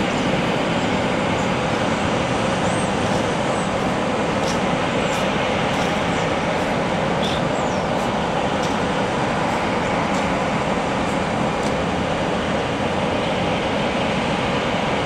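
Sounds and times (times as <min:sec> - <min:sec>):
jet engines rumbling and hissing: 0:00.0 - 0:15.0.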